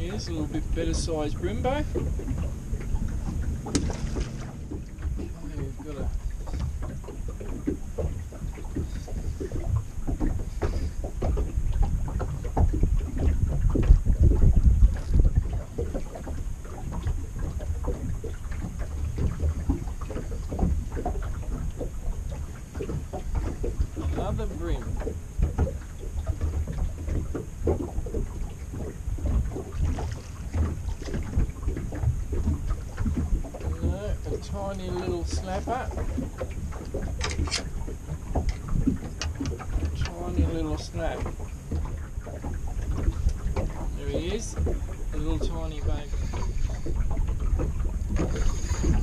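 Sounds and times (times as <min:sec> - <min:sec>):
water lapping against hull: 0:00.0 - 0:49.0
wind buffeting microphone: 0:00.0 - 0:49.0.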